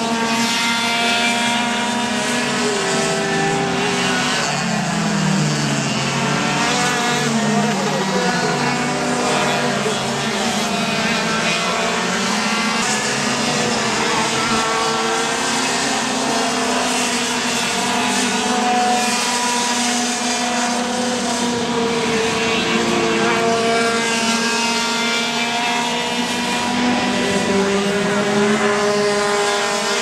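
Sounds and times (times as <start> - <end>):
kart engines at high revs: 0.0 - 30.0.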